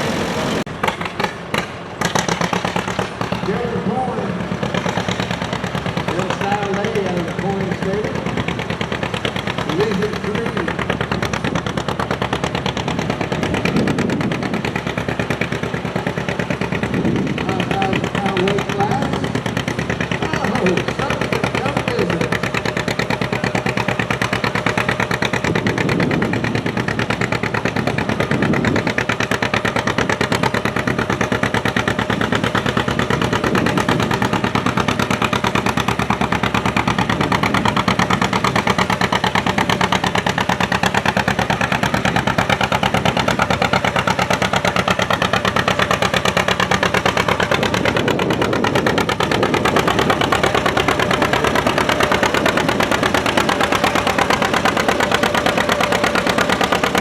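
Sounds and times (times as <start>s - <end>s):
tractor engine running under load: 0.0s - 57.0s.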